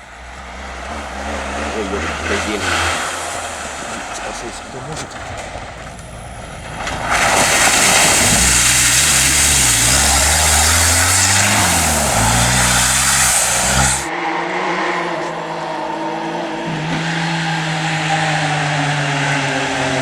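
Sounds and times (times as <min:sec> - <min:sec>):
loud rushing noise: 0:00.0 - 0:17.0
race car engine revving: 0:00.0 - 0:20.0.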